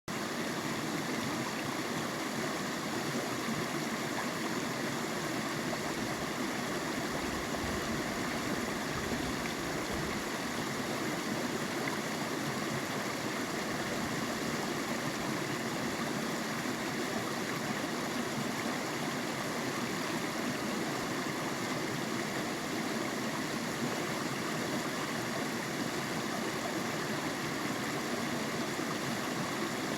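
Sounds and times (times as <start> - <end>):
creek water flowing: 0.1 - 29.9.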